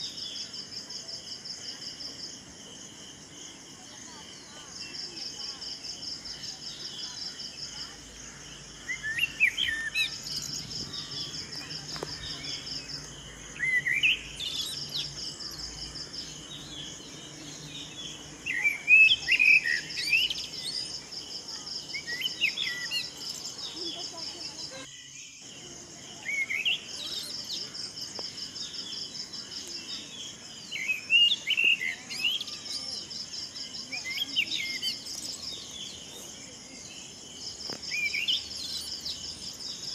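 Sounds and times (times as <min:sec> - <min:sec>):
insects trilling: 0:00.0 - 0:39.9
birds singing: 0:04.1 - 0:39.9.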